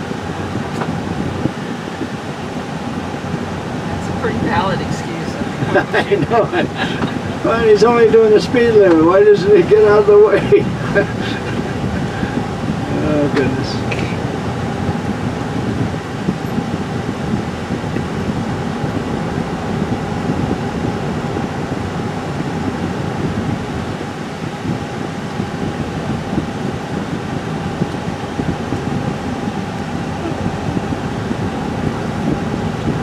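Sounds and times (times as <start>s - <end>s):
car tyre and engine rumble: 0.0s - 33.0s.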